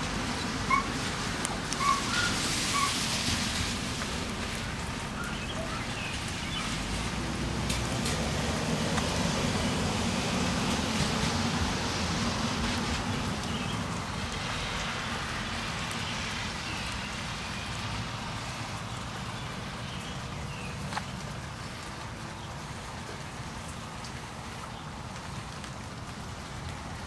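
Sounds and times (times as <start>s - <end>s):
rain falling on foliage: 0.0s - 27.0s.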